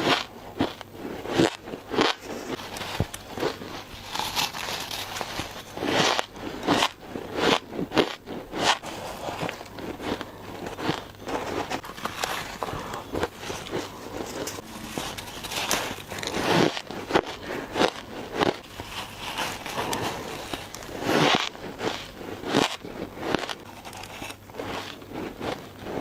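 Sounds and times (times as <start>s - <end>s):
ice being crunched: 0.0s - 25.7s.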